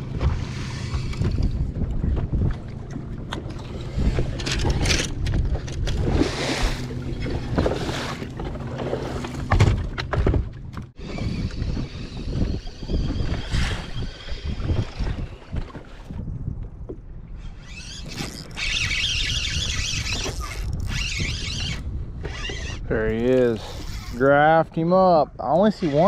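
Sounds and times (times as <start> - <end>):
water slapping boat hull: 0.0 - 22.8
trolling motor hum: 0.0 - 24.9.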